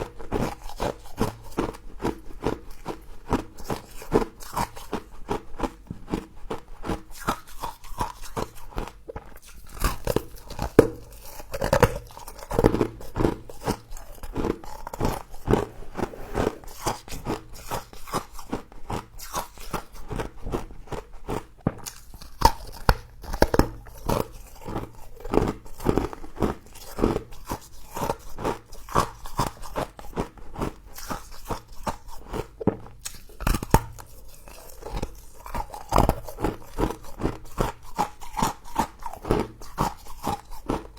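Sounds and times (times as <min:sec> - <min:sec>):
person chewing crunchy frost: 0:00.0 - 0:40.9.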